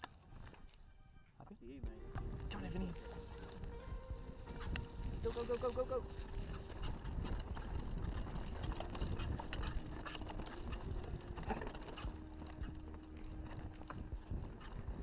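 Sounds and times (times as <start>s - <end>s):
bike tyres rumbling on dirt: 2.1s - 15.0s
bike rattling and clicking: 2.2s - 15.0s.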